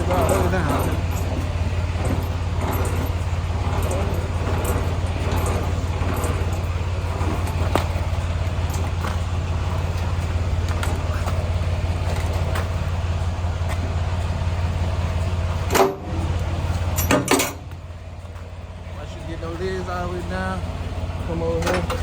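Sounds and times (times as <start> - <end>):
clunks: 0.0 - 22.0
diesel truck engine idling: 0.0 - 22.0.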